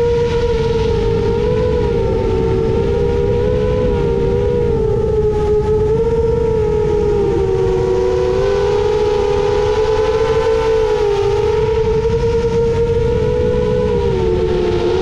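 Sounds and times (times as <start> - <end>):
drone motors buzzing whine: 0.0 - 15.0
low rushing noise: 0.0 - 15.0.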